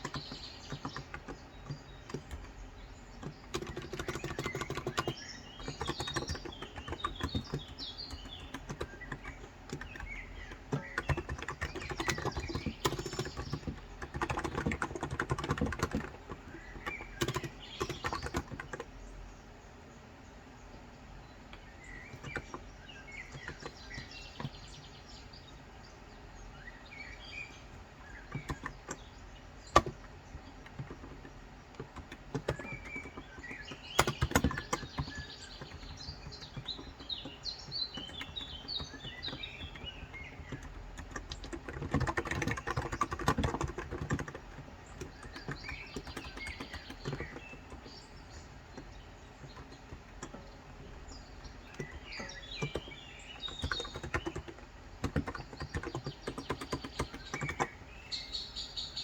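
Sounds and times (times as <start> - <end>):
keyboard typing: 0.0 - 18.9, 21.6 - 24.8, 27.6 - 59.0
birds chirping: 0.0 - 59.0.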